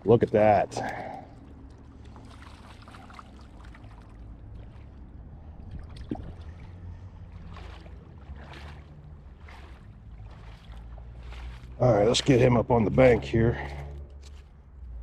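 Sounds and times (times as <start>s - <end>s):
creek water splashing: 0.0s - 15.0s
steady low rumble: 0.0s - 15.0s.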